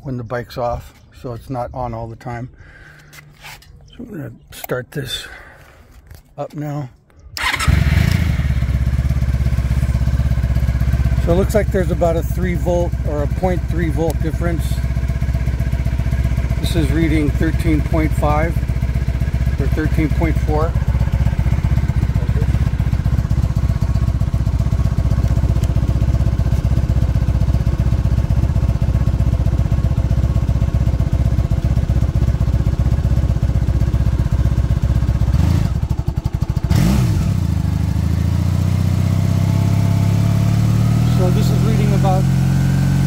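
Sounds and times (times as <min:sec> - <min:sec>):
motorcycle engine idling and revving: 0:07.2 - 0:43.0.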